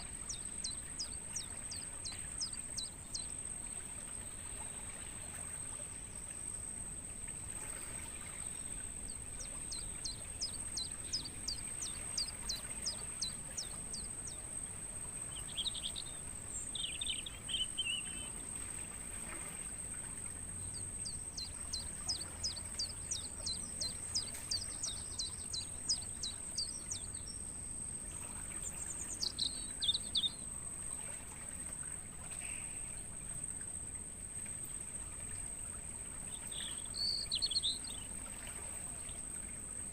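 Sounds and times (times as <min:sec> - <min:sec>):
songbird singing: 0:00.0 - 0:31.2, 0:32.2 - 0:33.6, 0:34.5 - 0:39.9
crickets trilling: 0:00.0 - 0:39.9.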